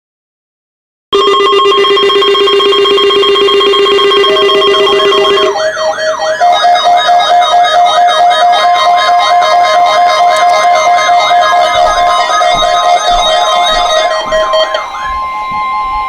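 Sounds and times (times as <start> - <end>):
buzzy synthesizer chord: 1.2 - 16.0
warbling synthesizer tones: 1.2 - 16.0.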